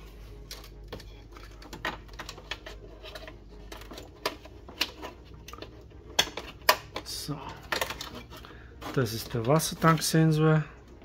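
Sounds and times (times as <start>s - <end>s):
clicks of handling plastic parts: 0.5s - 10.2s.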